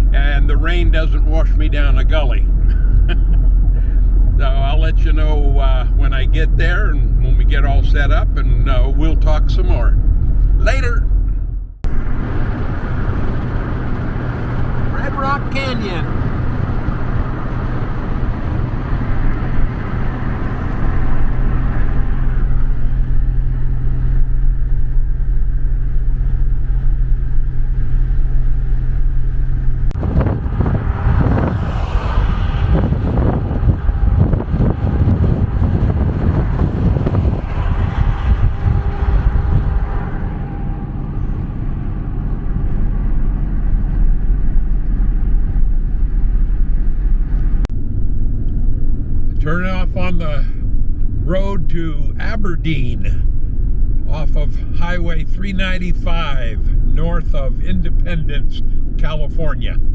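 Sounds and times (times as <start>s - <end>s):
rough gusting noise: 0.0s - 55.2s
low engine drone: 0.0s - 59.9s
road and tyre noise: 0.0s - 59.9s.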